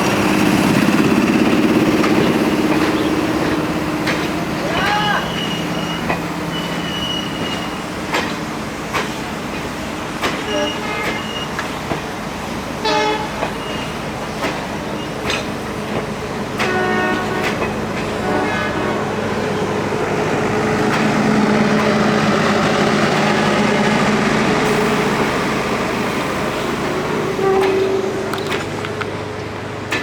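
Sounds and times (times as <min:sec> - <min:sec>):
locomotive hum: 0:00.0 - 0:30.0.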